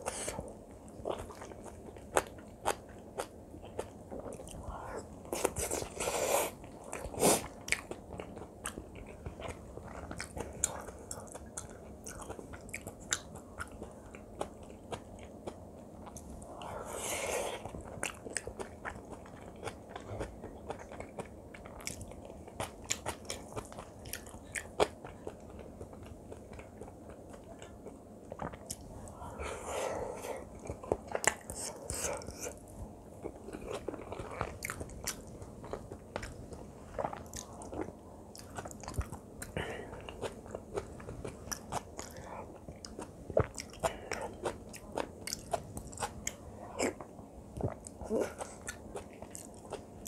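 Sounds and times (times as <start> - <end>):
chewing mouth sounds: 0.0 - 29.6, 30.2 - 50.0.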